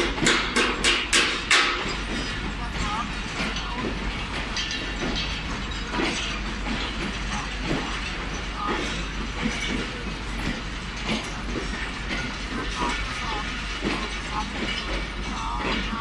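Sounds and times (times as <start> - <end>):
train wheels clanking on track: 0.0 - 16.0.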